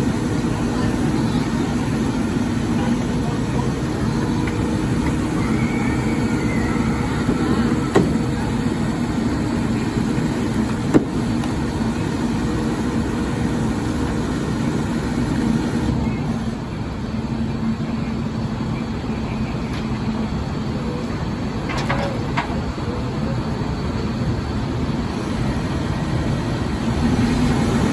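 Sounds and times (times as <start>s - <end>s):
garbage truck engine hum: 0.0s - 27.9s.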